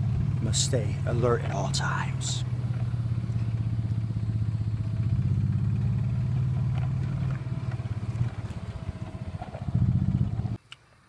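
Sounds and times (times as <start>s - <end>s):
small vehicle engine running: 0.0s - 10.6s.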